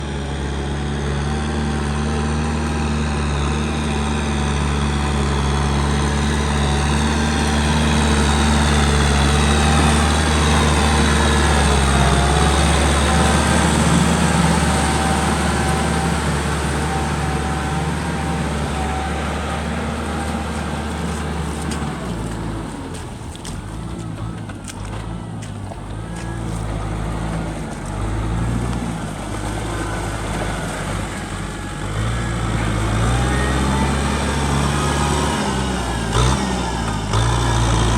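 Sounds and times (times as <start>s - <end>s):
tractor diesel engine: 0.0s - 37.9s.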